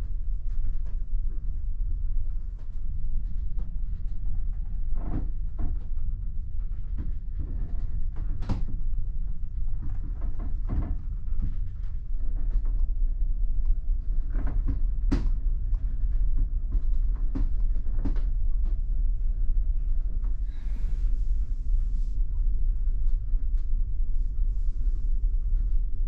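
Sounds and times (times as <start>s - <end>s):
ferry engine rumble: 0.0s - 26.0s.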